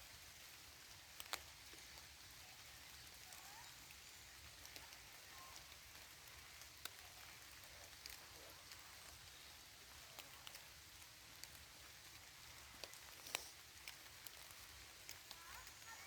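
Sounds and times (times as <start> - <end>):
light rain patter: 0.0 - 16.0.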